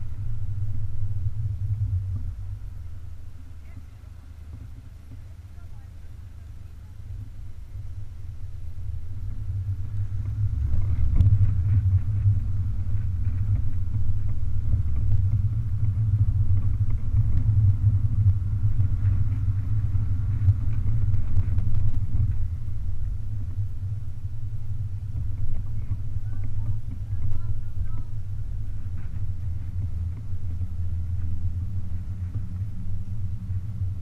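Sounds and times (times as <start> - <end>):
air rushing around open car: 0.0 - 34.0
car driving rumble: 0.0 - 34.0.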